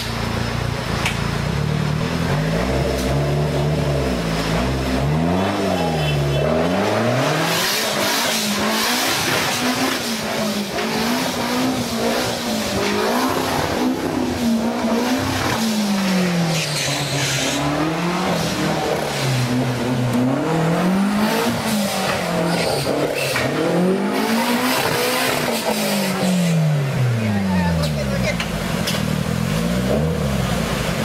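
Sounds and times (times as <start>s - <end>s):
off-road vehicle engine revving: 0.0s - 31.0s
water splashing and rushing: 0.1s - 31.0s.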